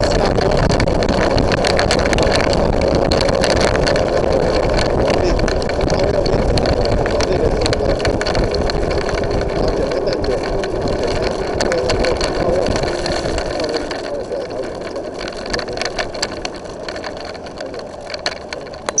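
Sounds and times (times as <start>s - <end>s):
light clicks and rattles: 0.0s - 19.0s
vehicle engine and road noise: 0.0s - 19.0s.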